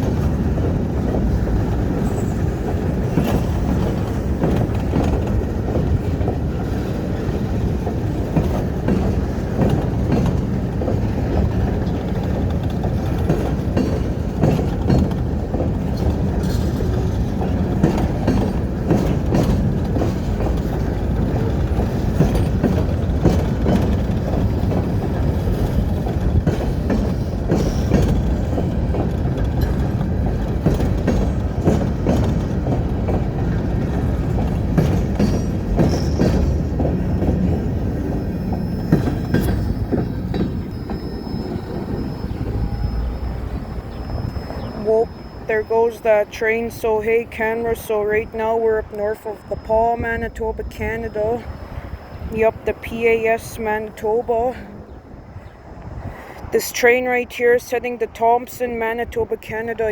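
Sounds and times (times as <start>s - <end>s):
wheels and couplers clacking: 0.0s - 56.8s
train rumbling on rails: 0.0s - 59.9s.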